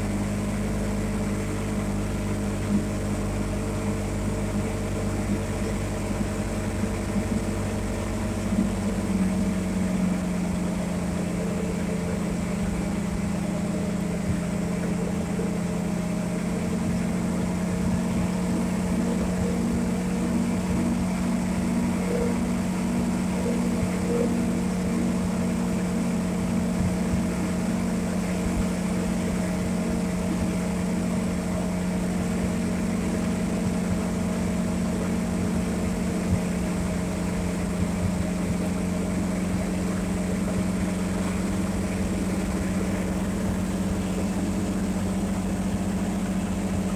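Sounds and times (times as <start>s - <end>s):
atv engine droning: 0.0s - 46.9s.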